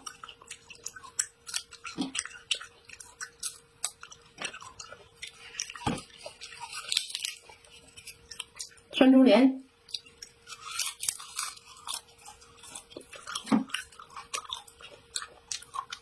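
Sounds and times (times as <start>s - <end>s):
person chewing crisp food: 0.0s - 8.9s, 9.7s - 16.0s
faint steady hum: 0.0s - 16.0s.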